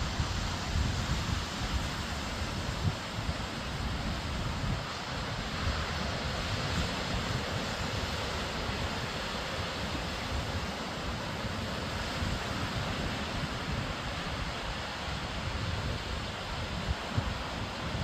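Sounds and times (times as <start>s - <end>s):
sea waves washing ashore: 0.0s - 18.0s.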